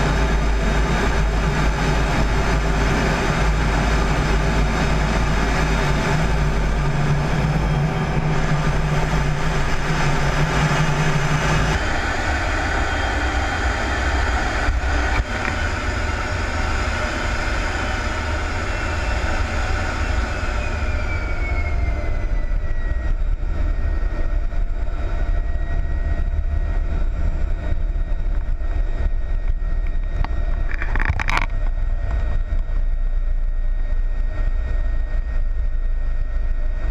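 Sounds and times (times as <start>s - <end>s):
high whine gliding downward: 0.0s - 36.9s
jet engine and airflow noise: 0.0s - 36.9s.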